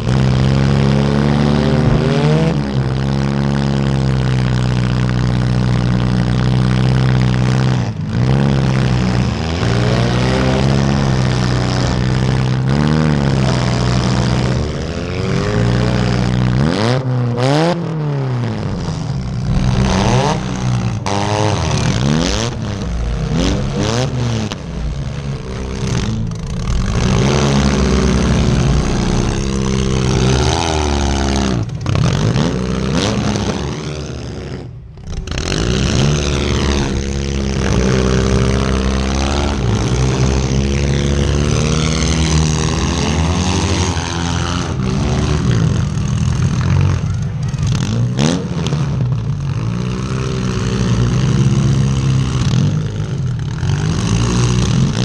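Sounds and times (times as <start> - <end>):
car engine revving hard: 0.0 - 47.0, 47.6 - 55.0.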